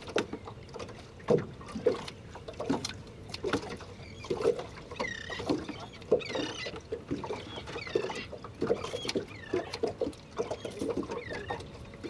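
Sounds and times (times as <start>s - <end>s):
waves slapping boat hull: 0.0s - 12.0s.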